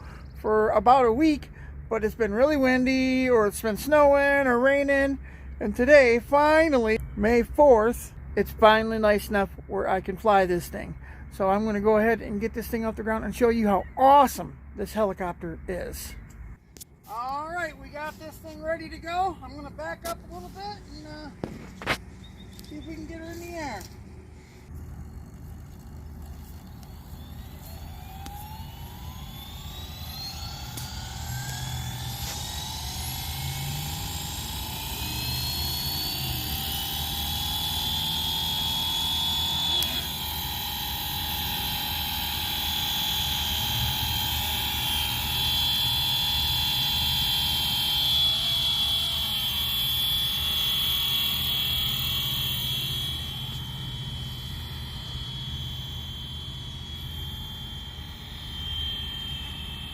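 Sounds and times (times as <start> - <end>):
rc helicopter motor whine: 1.0 - 7.0, 17.1 - 59.9.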